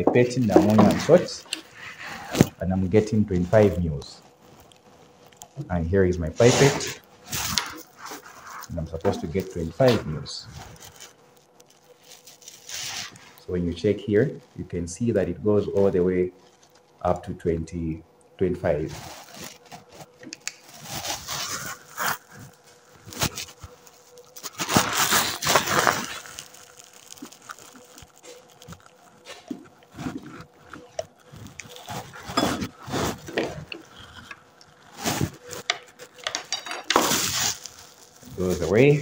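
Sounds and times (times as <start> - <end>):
rustling and scraping: 0.0 - 17.1, 18.7 - 39.0.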